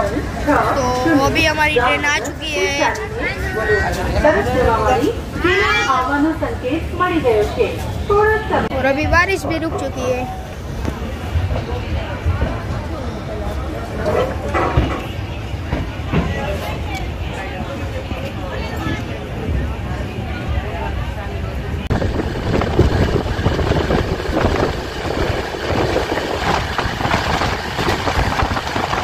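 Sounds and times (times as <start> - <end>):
train coach rumbling: 0.0 - 29.0.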